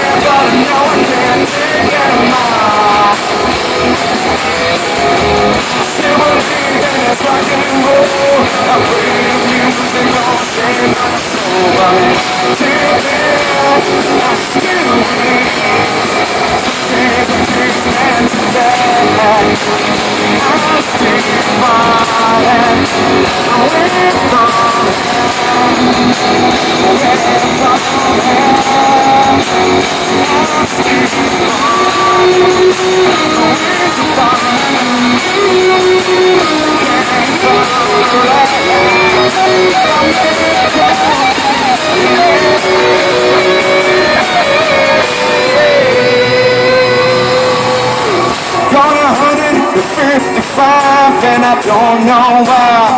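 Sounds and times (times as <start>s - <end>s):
person singing: 0.0s - 52.9s
rock band playing live: 0.0s - 52.9s.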